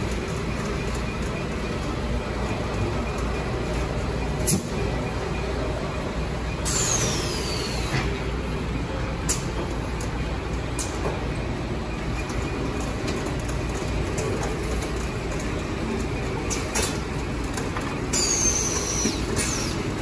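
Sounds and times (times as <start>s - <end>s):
filling machine and conveyor din: 0.0s - 20.0s.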